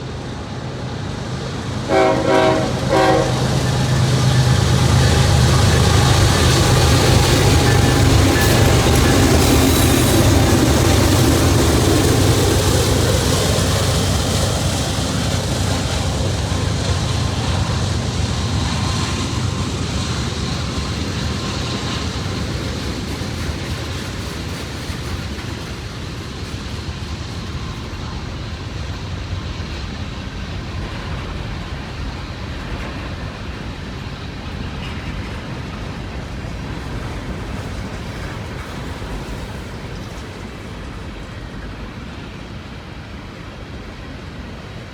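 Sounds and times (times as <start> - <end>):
diesel locomotive engine rumble: 0.0 - 44.9
freight cars rolling: 1.6 - 42.0.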